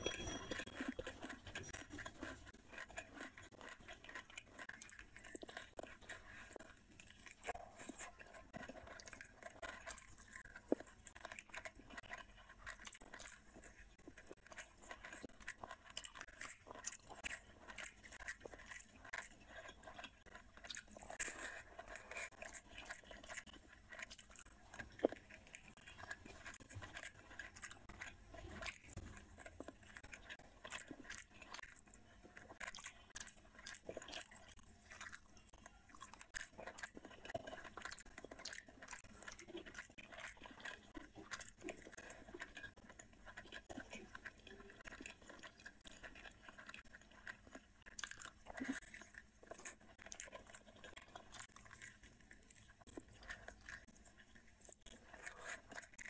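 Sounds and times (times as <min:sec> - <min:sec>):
fingers mixing rice on plate: 0:00.0 - 0:56.0
person chewing food: 0:00.0 - 0:56.0.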